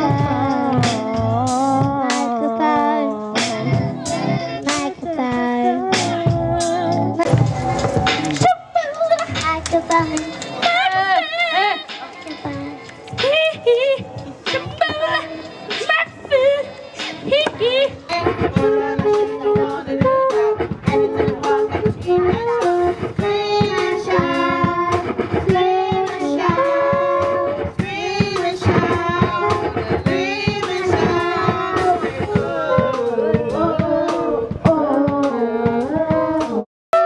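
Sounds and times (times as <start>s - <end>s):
child singing: 0.0s - 7.6s, 8.4s - 37.0s
backing track with drum beat: 0.0s - 37.0s.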